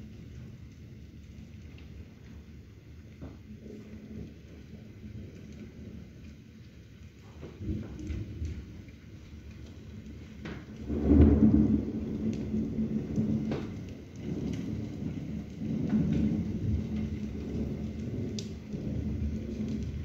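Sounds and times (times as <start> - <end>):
steady rain: 0.0 - 20.0
thunder rumbling: 0.0 - 20.0.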